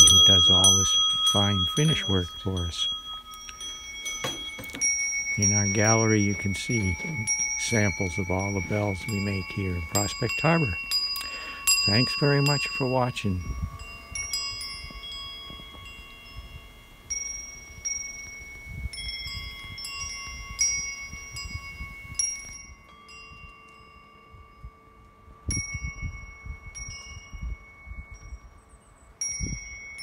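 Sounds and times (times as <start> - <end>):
bronze wind bells ringing: 0.0 - 30.0.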